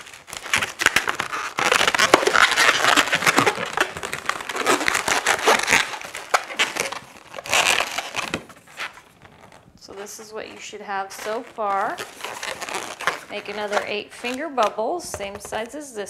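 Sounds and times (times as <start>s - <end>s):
balloons squeaking and crackling: 0.0s - 15.8s.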